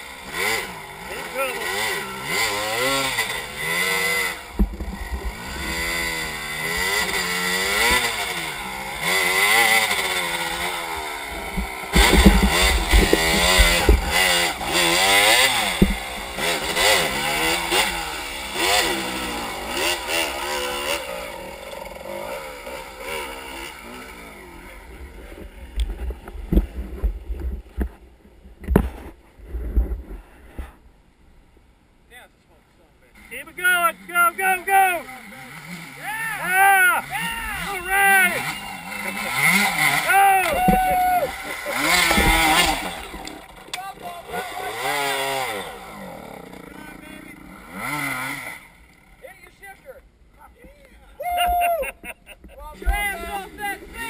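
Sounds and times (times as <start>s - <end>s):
motorcycle engine revving: 0.0s - 28.0s, 33.2s - 49.6s.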